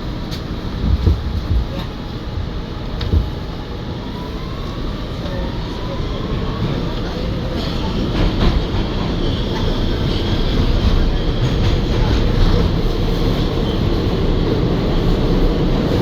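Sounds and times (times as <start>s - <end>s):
subway car rumble: 0.0s - 16.0s.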